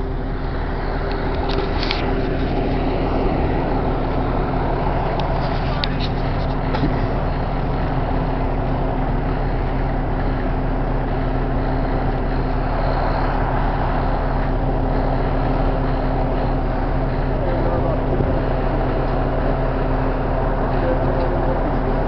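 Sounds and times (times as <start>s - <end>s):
engine idling: 0.0s - 22.0s
roaring fire: 0.0s - 22.0s.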